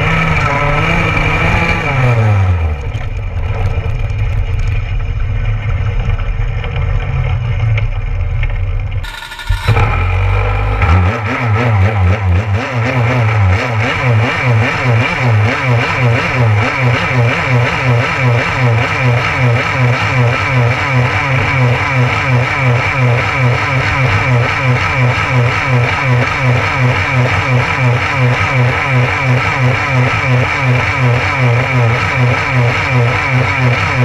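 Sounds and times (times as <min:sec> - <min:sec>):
go-kart engine running: 0:00.0 - 0:34.0
kart engine idling: 0:00.0 - 0:34.0.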